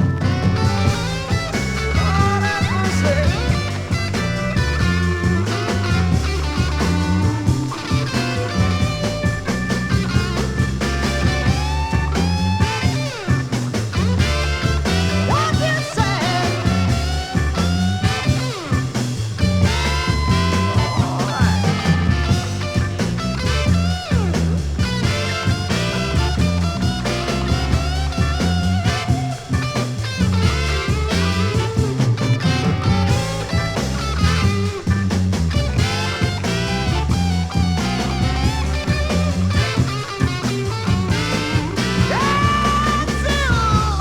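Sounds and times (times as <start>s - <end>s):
bass and drum groove: 0.0s - 44.0s
electric blues band: 0.0s - 44.0s
lead guitar bent notes: 0.0s - 44.0s.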